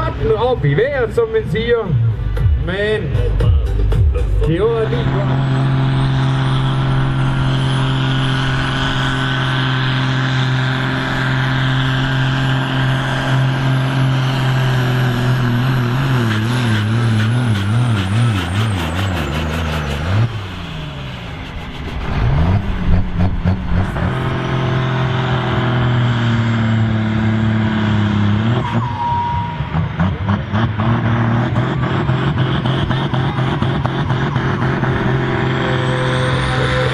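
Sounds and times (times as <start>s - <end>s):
tractor diesel engine labouring: 0.0s - 36.9s.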